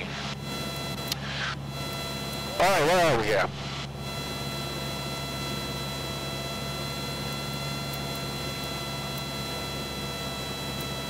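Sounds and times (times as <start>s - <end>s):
high-pitched whine: 0.0s - 9.9s
propeller plane engine droning: 0.0s - 11.0s.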